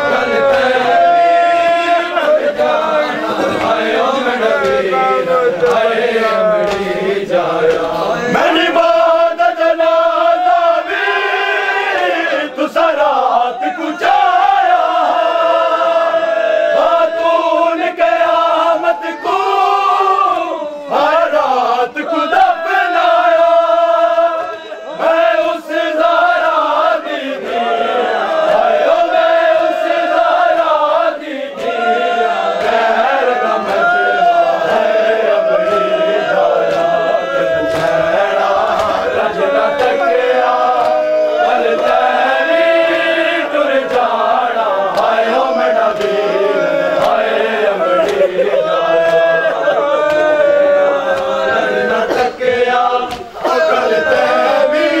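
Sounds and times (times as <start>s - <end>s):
lead reciter singing: 0.0s - 55.0s
men chanting mourning lament: 0.0s - 55.0s.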